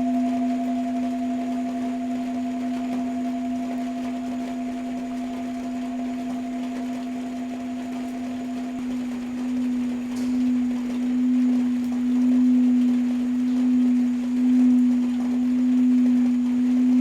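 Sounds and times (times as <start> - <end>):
rain hiss: 0.0 - 17.0
singing bowl low tone: 0.0 - 17.0.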